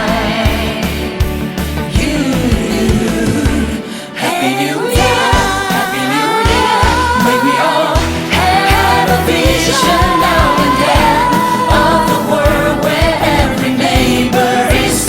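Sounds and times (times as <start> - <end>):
pop music with singing: 0.0 - 15.0.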